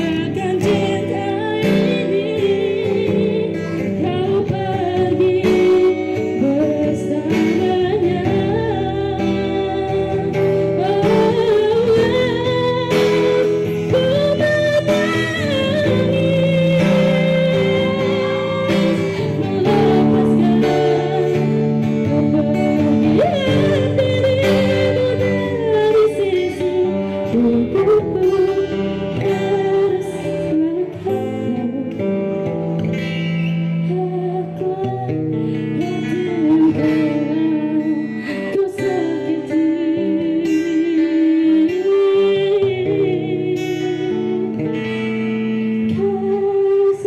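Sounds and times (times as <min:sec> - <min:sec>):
strummed acoustic guitar: 0:00.0 - 0:47.0.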